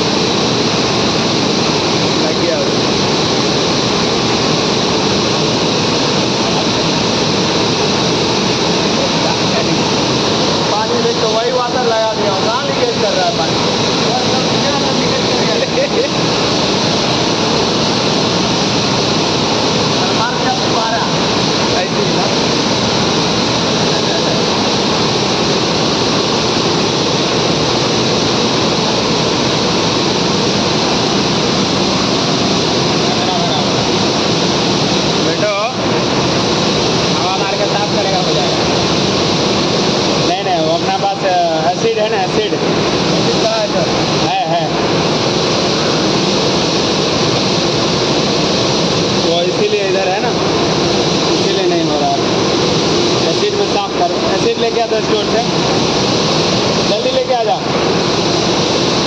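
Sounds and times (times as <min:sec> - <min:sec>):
mill machinery running: 0:00.0 - 0:59.0.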